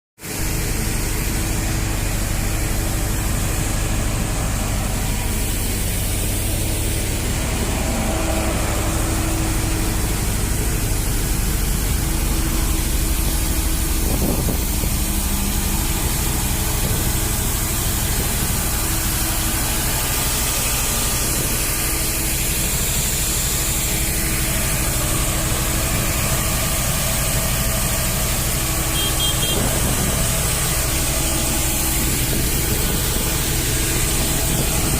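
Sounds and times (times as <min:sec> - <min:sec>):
large machine droning: 0:00.2 - 0:34.9.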